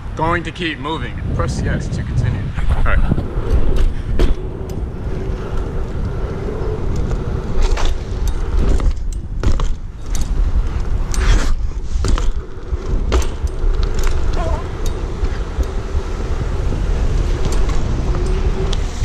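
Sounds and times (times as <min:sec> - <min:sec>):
bike tyres rumbling on asphalt: 0:00.0 - 0:19.0
bike chain rattling: 0:03.2 - 0:19.0.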